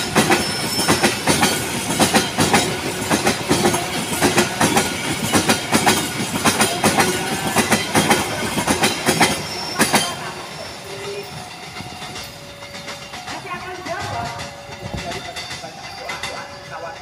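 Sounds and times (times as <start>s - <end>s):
train rumble: 0.0s - 17.0s
train wheels clattering over joints: 0.0s - 17.0s.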